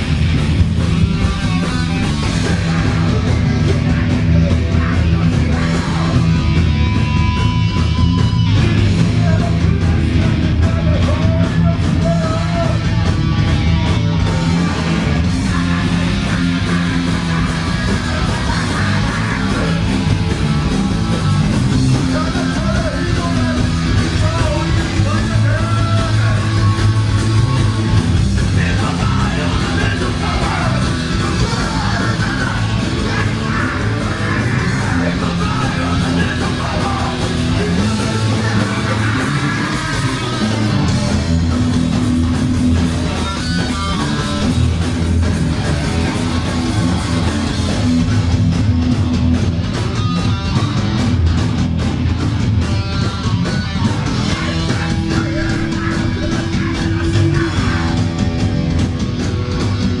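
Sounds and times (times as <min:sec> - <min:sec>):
loud rock music: 0:00.0 - 1:00.0.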